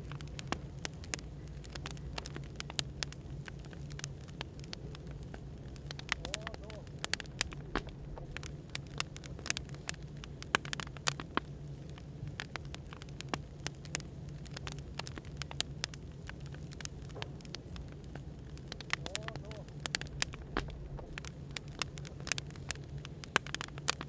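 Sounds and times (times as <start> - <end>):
firewood crackling and popping: 0.0 - 24.0.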